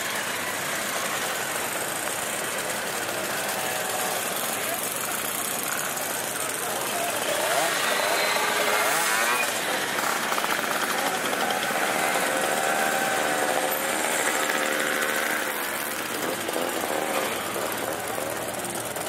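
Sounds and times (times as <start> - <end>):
mopeds and motorcycles passing: 0.0 - 19.0.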